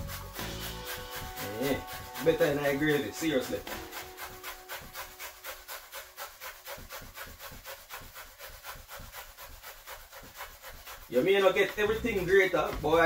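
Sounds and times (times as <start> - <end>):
onion rasping on grater: 0.0 - 13.0.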